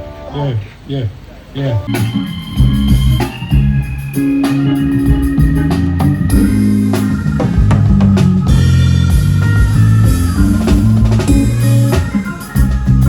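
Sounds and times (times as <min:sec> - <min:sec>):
live band playing: 0:00.0 - 0:00.4, 0:01.6 - 0:13.0
guitar: 0:00.0 - 0:13.0
keyboard: 0:00.0 - 0:13.0
bass notes: 0:01.5 - 0:13.0
drum kit beat: 0:01.7 - 0:13.0.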